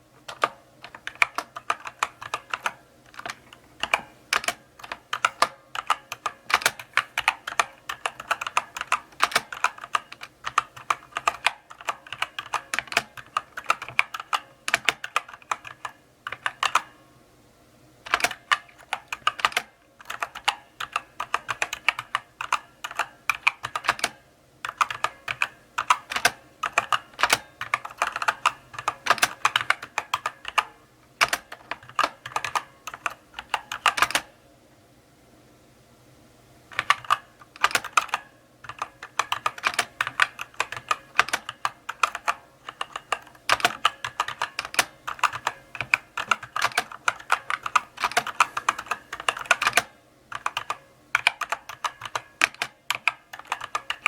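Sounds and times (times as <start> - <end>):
mechanical keyboard typing: 0.2 - 17.0, 18.0 - 34.3, 36.7 - 54.0.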